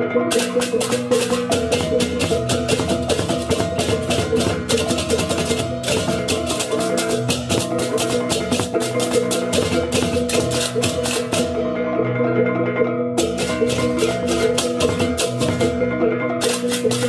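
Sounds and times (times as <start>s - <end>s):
ringing gong and metallophone: 0.0s - 17.0s
clashing cymbals and drums: 0.4s - 11.5s, 13.2s - 15.8s, 16.4s - 17.0s.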